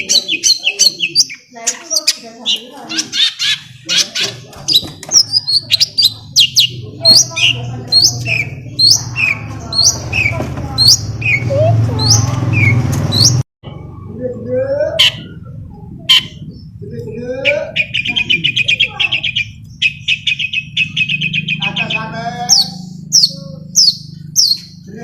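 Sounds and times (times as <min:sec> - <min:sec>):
bird song with sharp high chirps: 0:00.0 - 0:14.0, 0:14.9 - 0:25.0.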